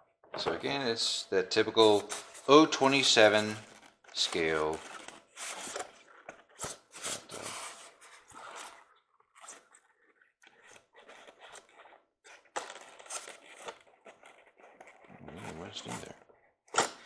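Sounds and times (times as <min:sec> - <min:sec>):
handling toy and box packaging: 0:01.7 - 0:17.0.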